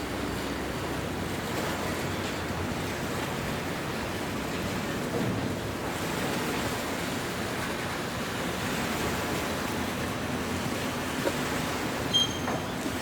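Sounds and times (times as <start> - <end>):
distant port noise: 0.0 - 13.0.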